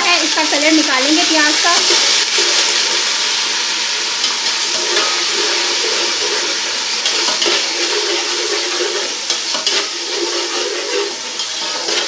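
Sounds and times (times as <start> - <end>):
onions sizzling in hot fat: 0.0 - 12.0
water boiling off in steam: 0.0 - 12.0.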